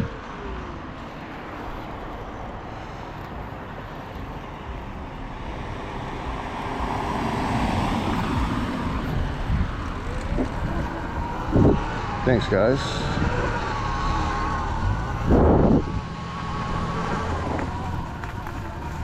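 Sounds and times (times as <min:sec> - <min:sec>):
electric dirt bike riding: 0:00.0 - 0:19.0.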